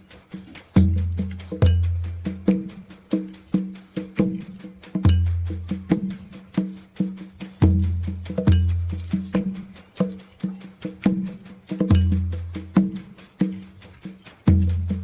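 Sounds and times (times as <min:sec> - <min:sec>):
tambourine-like jingles: 0:00.0 - 0:15.0.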